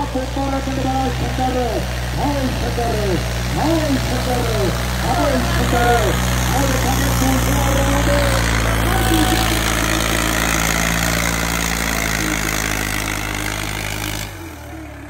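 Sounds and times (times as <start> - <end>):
engine running loud: 0.0 - 15.0.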